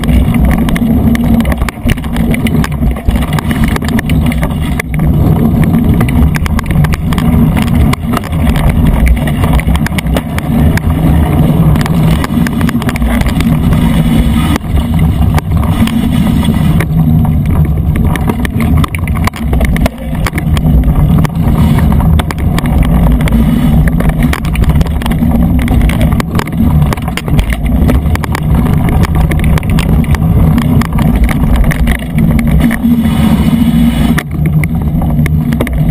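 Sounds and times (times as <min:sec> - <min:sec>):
bike rattles and knocks: 0:00.0 - 0:35.9
tyres rumbling on dirt: 0:00.0 - 0:35.9
wind buffeting: 0:00.0 - 0:35.9.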